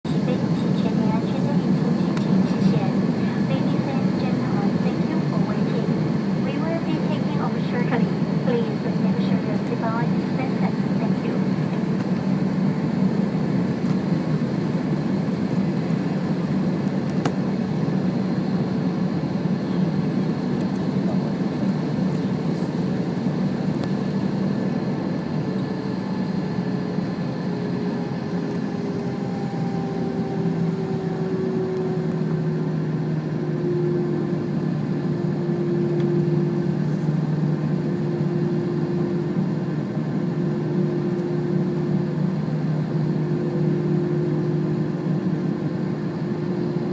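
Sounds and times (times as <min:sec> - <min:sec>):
jet engines humming in cabin: 0:00.0 - 0:46.9.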